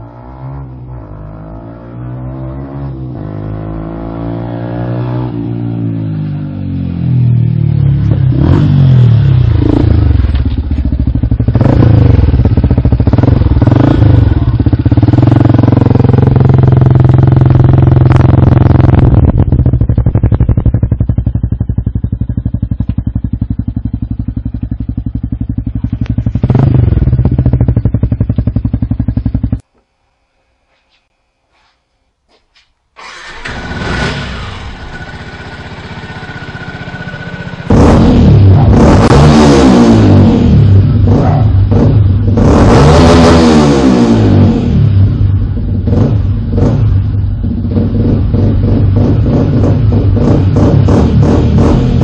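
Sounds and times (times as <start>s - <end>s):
motorcycle engine revving: 0.0s - 29.8s, 33.0s - 52.0s.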